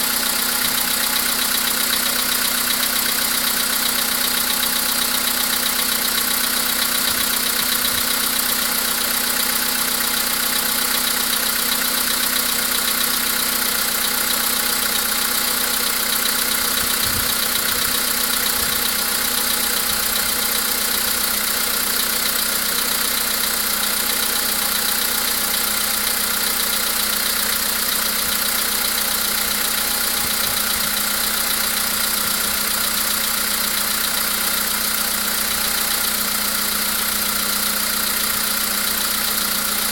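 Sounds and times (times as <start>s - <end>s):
car engine idling: 0.0s - 39.9s
engine knocking: 0.0s - 39.9s.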